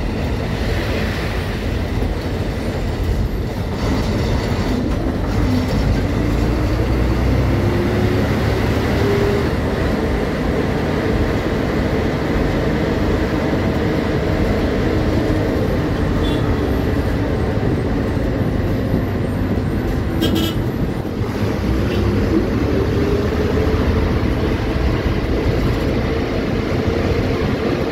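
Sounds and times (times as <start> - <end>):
bus diesel engine drone: 0.0 - 27.9
road and wind noise: 0.0 - 27.9.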